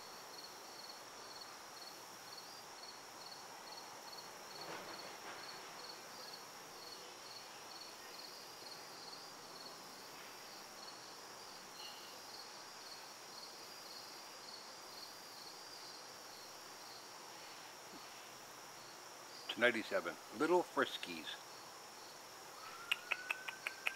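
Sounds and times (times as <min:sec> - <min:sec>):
crickets chirping: 0:00.0 - 0:23.9.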